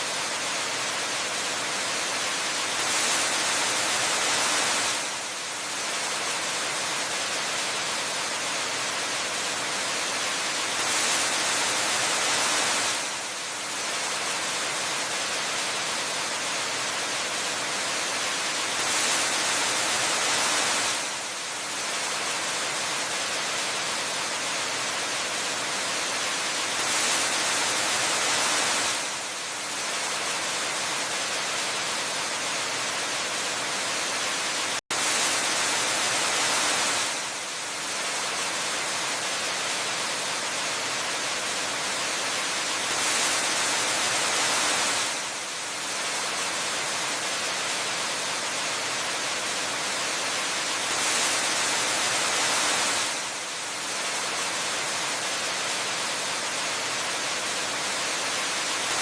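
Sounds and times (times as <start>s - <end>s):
waterfall hissing: 0.0s - 59.0s.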